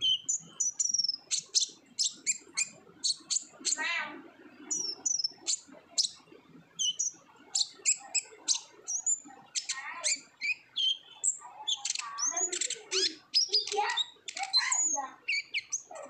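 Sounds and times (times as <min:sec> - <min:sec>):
sunbird singing: 0:00.0 - 0:16.0.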